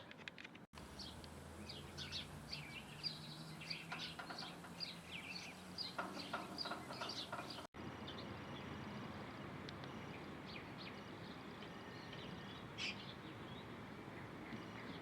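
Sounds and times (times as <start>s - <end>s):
background hiss: 0.8s - 13.1s
birds chirping: 0.8s - 15.0s.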